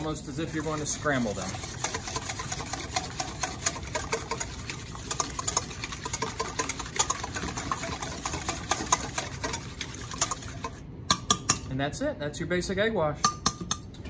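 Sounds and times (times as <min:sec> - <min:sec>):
whisk beating eggs in metal bowl: 0:00.0 - 0:11.6.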